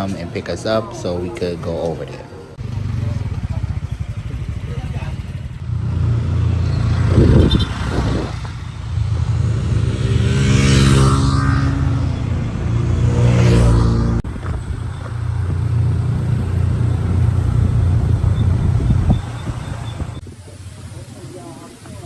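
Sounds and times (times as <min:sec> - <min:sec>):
vehicle engine rumbling and revving: 0:02.0 - 0:20.3.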